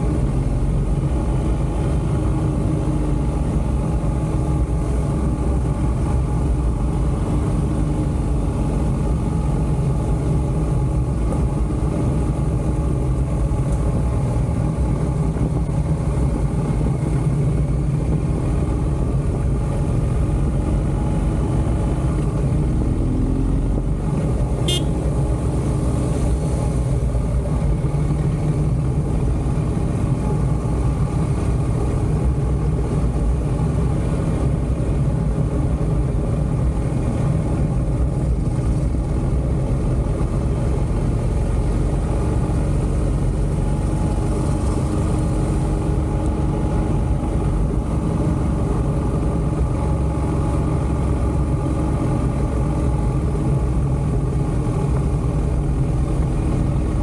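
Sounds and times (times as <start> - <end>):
motorcycle engine and road drone: 0.0 - 57.0.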